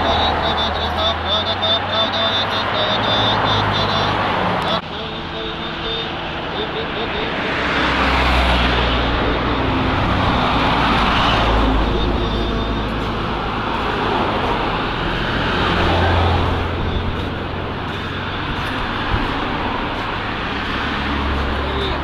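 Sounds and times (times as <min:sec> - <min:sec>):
road and wind noise: 0:00.0 - 0:22.0
motorcycle engines running: 0:02.5 - 0:22.0.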